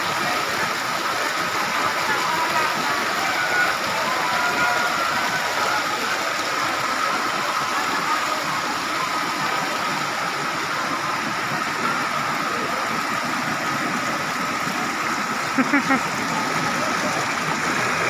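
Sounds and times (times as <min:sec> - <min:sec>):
stream rushing over boulders: 0:00.0 - 0:18.0.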